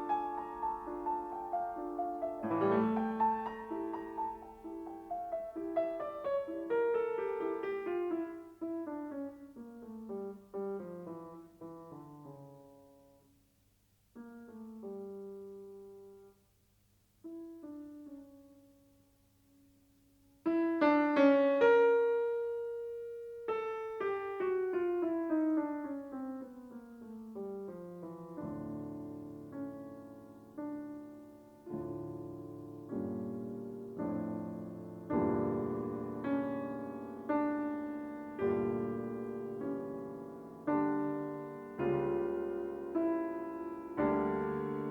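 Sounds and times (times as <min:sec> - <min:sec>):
solo piano music: 0:00.0 - 0:44.9.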